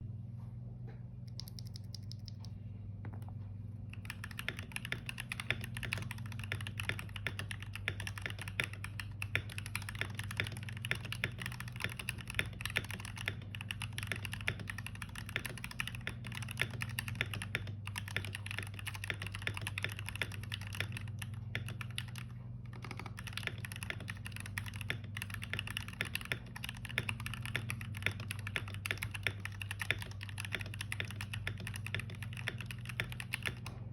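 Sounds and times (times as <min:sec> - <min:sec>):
steady low hum: 0:00.0 - 0:33.9
fast typing on keyboard: 0:01.3 - 0:02.4, 0:03.9 - 0:33.8.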